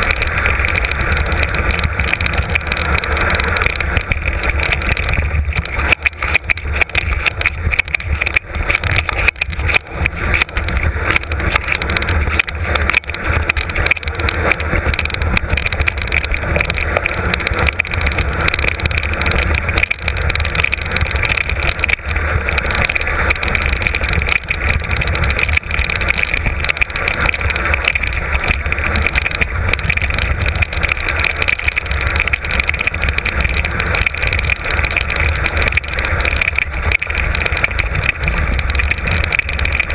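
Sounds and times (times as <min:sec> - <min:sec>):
bike rattling over rough ground: 0:00.0 - 0:39.9
wind rumble on microphone: 0:00.0 - 0:39.9.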